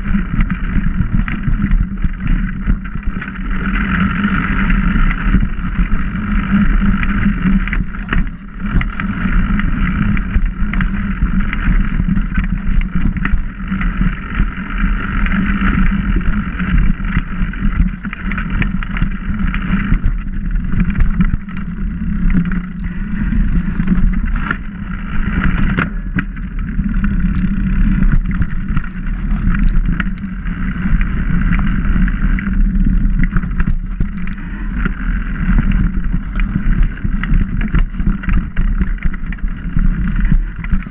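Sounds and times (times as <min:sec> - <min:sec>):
bike knocking and rattling: 0:00.0 - 0:40.9
trail vibration and wind rumble: 0:00.0 - 0:40.9.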